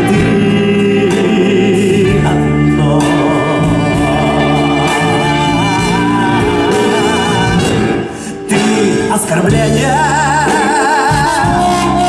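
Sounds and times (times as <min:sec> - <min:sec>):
live band playing ballad: 0:00.0 - 0:12.0.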